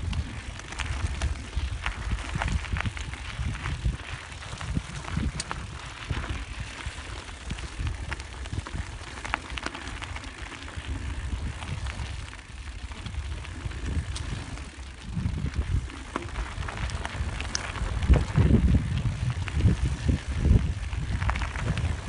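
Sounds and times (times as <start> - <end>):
tyres crunching on trail: 0.0 - 22.0.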